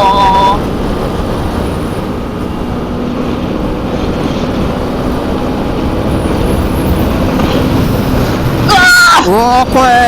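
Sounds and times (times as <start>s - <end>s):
motorcycle engine running: 0.0s - 8.7s
wind rushing over microphone: 0.0s - 10.0s.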